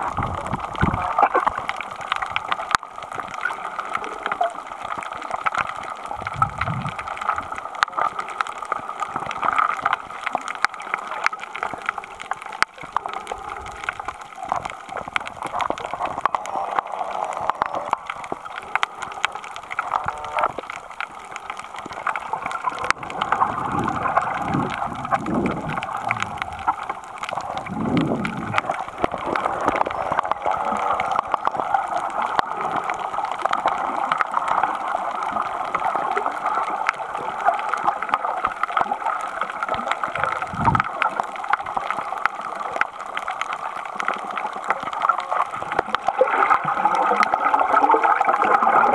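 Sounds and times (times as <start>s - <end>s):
crackle of fine clicks: 0.0s - 48.9s
underwater gurgling water: 0.0s - 48.9s.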